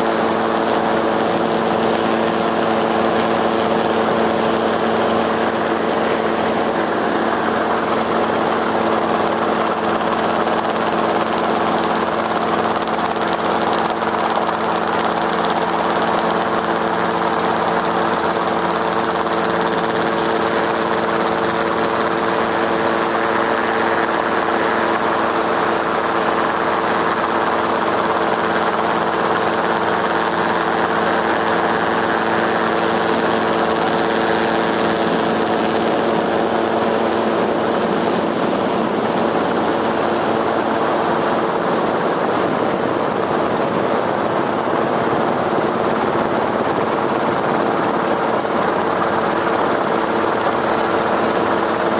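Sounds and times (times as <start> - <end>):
drone motors and propellers humming: 0.0 - 51.9.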